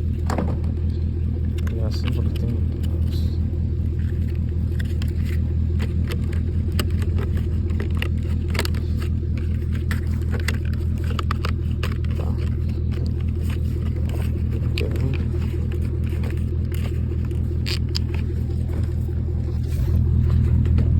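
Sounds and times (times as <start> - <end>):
machine low hum: 0.0 - 20.9.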